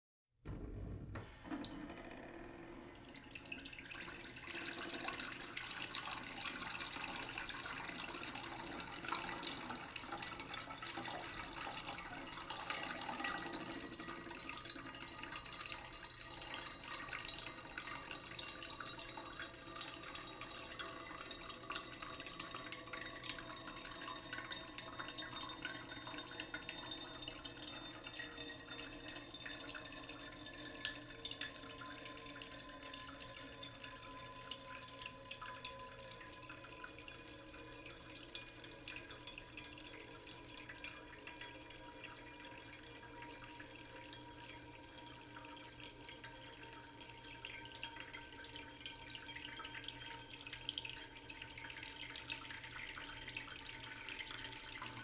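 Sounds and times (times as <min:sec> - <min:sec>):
tap water trickling into pot: 0:03.1 - 0:55.0.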